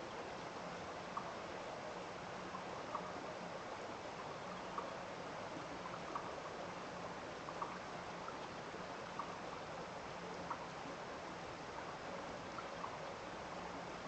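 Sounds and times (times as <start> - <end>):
stream rushing water: 0.0 - 14.0.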